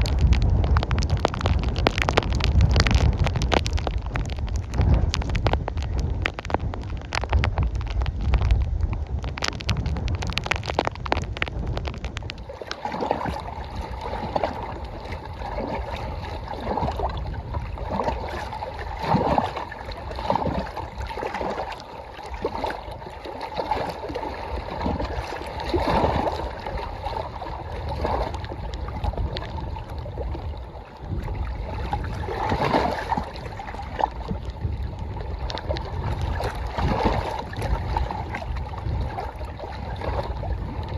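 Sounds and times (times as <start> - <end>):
waves lapping against shore: 0.0 - 40.9
wind buffeting microphone: 0.0 - 40.9.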